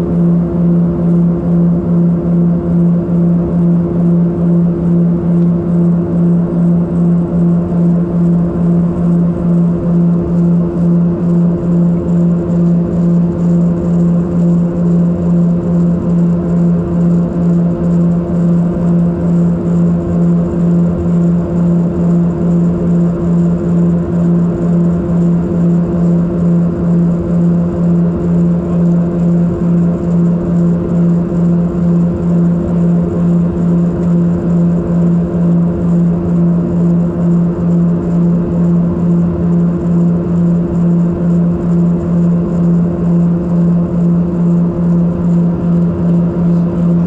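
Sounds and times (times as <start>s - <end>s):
propeller engine drone: 0.0s - 47.0s.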